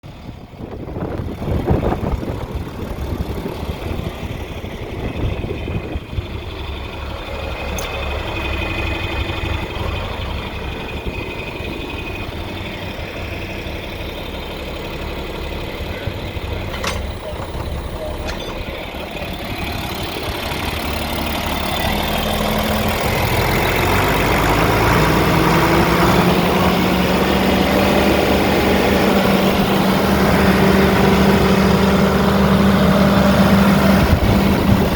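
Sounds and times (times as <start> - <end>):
diesel tractor engine idling: 0.0 - 34.9.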